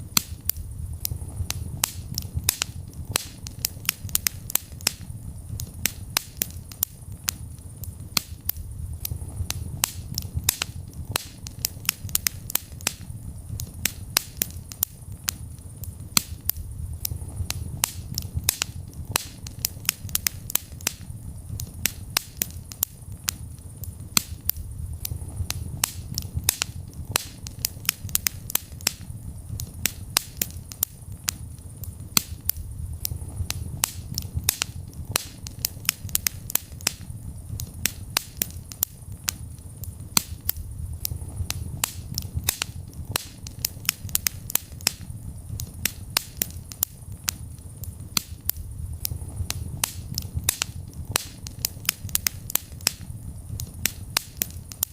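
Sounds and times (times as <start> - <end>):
fire crackling in a fireplace: 0.0 - 54.9.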